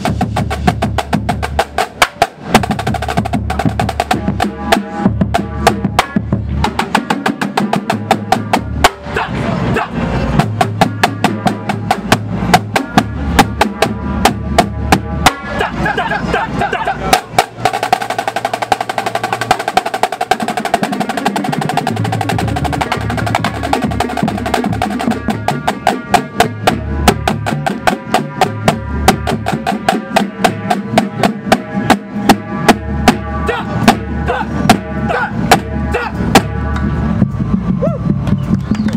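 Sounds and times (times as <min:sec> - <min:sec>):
tenor drums: 0:00.0 - 0:38.9
tuned bass drums: 0:00.0 - 0:38.9.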